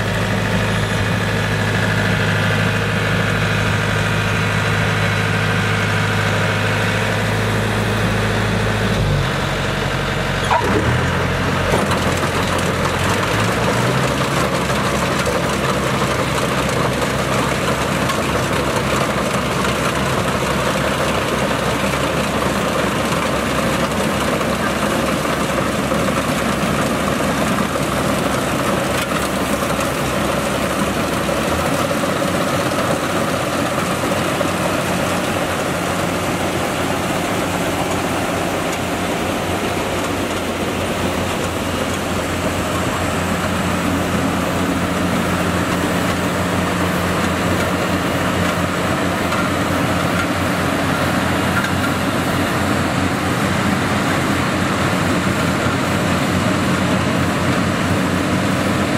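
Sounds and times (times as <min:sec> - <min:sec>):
combine harvester engine running: 0:00.0 - 0:58.9.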